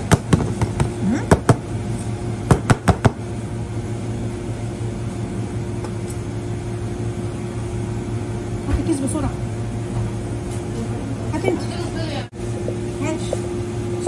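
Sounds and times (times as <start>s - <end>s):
kitchen machine hum: 0.0s - 14.0s.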